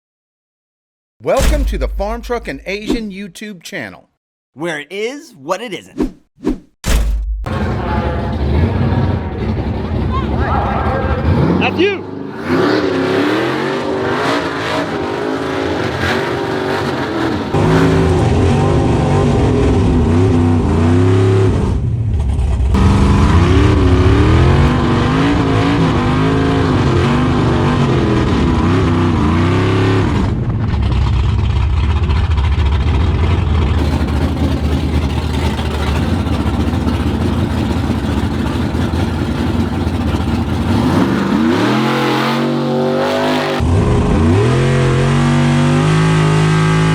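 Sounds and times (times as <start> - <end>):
drag racing engine revving: 7.5 - 46.9.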